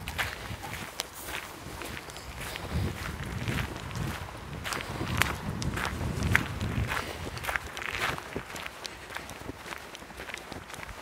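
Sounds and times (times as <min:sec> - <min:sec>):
footsteps on asphalt: 0:00.0 - 0:11.0.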